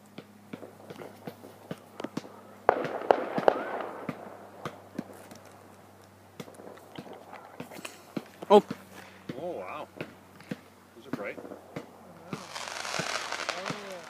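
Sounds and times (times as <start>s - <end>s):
fireworks crackle: 0.0s - 14.0s
fireworks bangs: 0.5s - 5.7s, 6.3s - 14.0s
fireworks popping: 0.5s - 14.0s.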